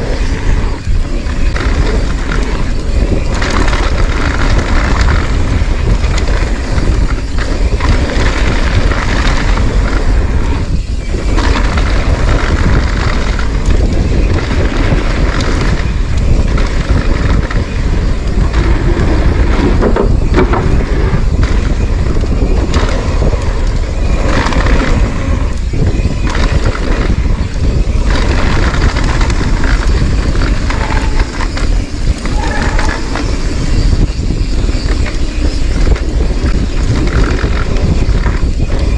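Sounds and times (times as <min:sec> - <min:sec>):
bike tyre and trail noise: 0:00.0 - 0:38.9
wind rush on microphone: 0:00.0 - 0:38.9.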